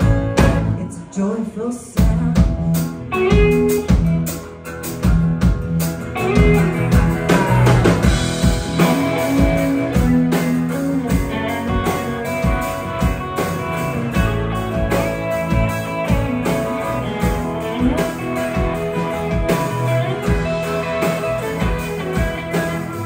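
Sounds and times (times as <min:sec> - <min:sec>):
drum kit beat: 0:00.0 - 0:00.8, 0:02.0 - 0:23.0
bass: 0:00.0 - 0:23.0
electric guitars: 0:00.0 - 0:23.0
keyboard: 0:00.0 - 0:23.0.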